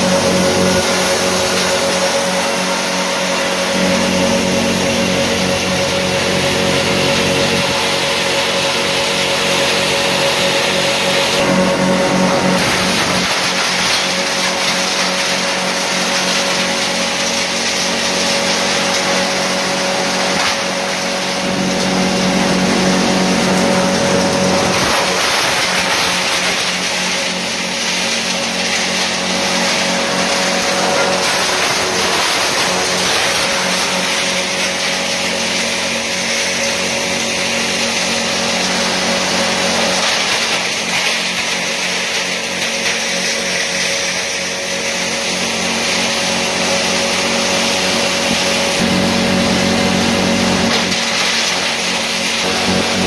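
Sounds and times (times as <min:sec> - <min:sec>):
machine hum: 0:00.0 - 0:53.0
wood crusher running: 0:00.0 - 0:53.0.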